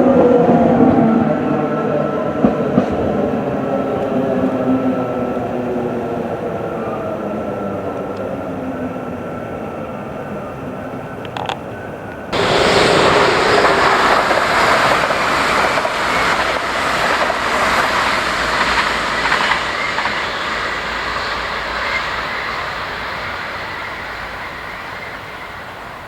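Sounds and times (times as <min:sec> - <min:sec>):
train passing on track: 0:00.0 - 0:26.0.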